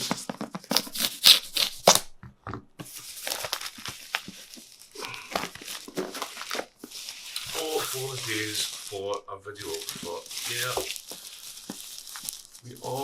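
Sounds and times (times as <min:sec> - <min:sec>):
packaging crinkling and tearing: 0:00.0 - 0:02.2, 0:02.9 - 0:13.0.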